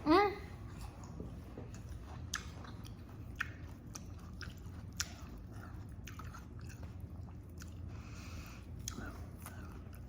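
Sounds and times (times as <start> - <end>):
person chewing crunchy food: 0.6 - 10.0.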